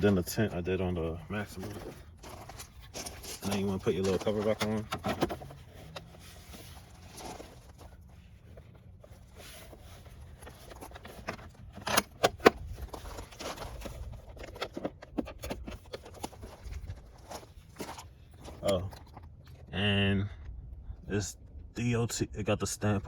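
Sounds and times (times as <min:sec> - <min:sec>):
plastic handling noises: 0:00.0 - 0:19.7.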